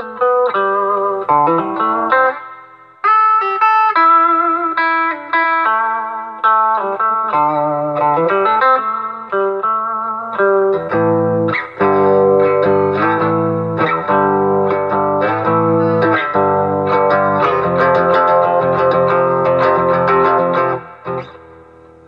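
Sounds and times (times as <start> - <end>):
electric guitar notes and chords: 0.0 - 22.0.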